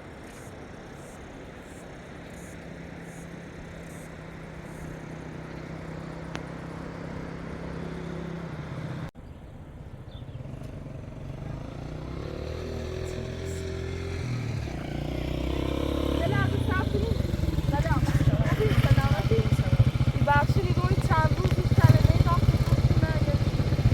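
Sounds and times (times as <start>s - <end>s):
motor engine running: 0.0s - 9.1s, 10.1s - 23.9s.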